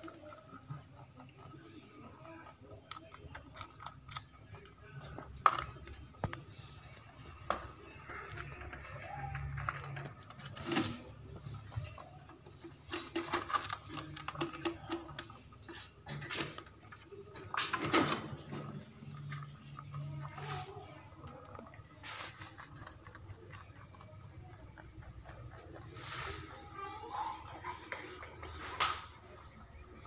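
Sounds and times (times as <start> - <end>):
animals eating in wire cage: 0.0 - 30.0.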